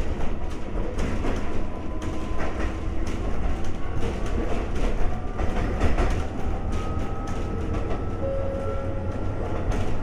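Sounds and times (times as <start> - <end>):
electric railcar rumble: 0.0 - 10.0
wheel clacks over rail joints: 0.0 - 10.0.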